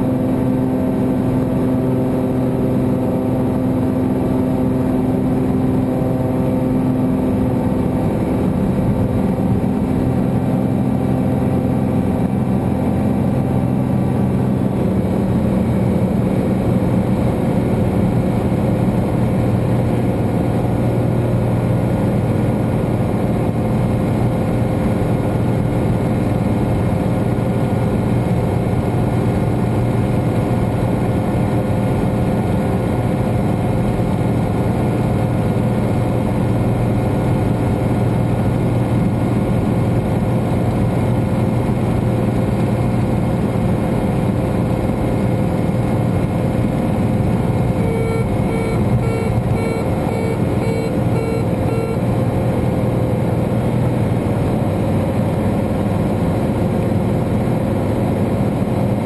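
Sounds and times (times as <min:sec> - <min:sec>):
airplane engine drone in cabin: 0:00.0 - 0:59.0.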